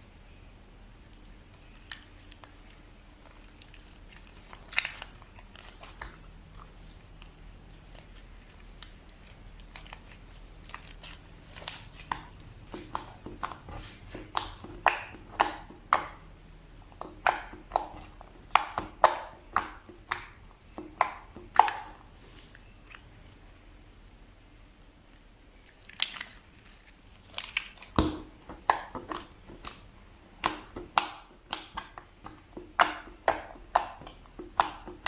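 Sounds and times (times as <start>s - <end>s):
slime popping and crackling: 1.1s - 6.6s, 7.2s - 16.2s, 16.8s - 22.0s, 25.7s - 35.0s.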